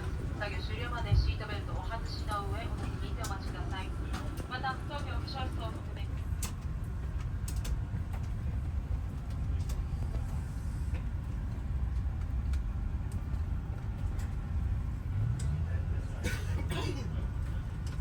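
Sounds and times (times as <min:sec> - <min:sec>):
cabin ventilation rumble: 0:00.0 - 0:18.0.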